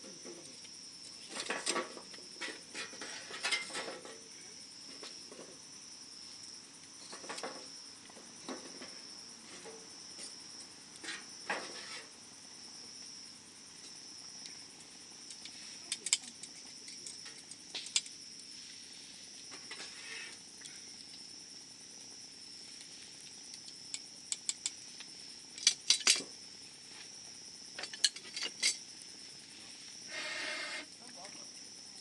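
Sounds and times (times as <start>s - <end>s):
campfire crackling and popping: 0.0s - 32.0s
shrill insect trill: 0.0s - 32.0s.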